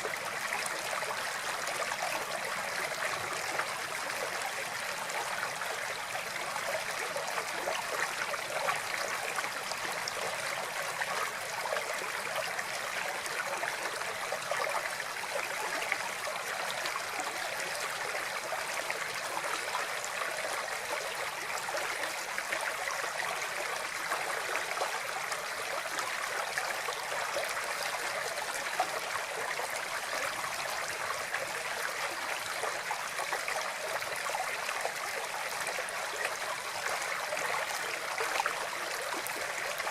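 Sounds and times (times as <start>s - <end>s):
water flowing and babbling: 0.0s - 39.9s.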